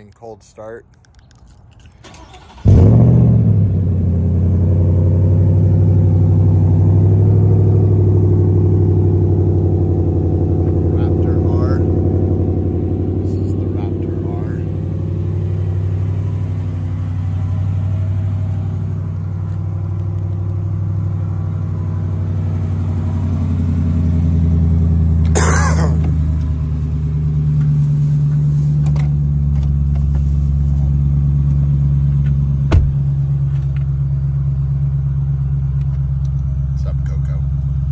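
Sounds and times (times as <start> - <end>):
engine idling: 3.5 - 37.9.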